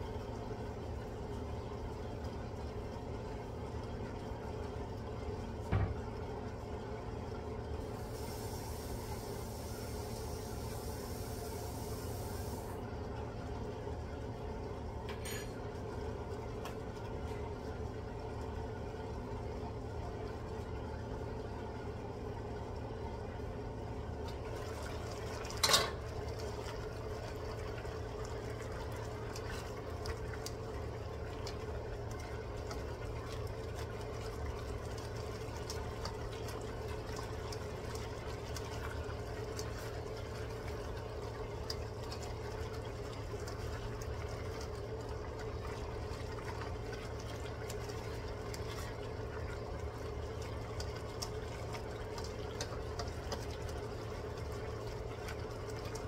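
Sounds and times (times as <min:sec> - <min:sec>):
food bubbling in wok: 0:00.0 - 0:56.0.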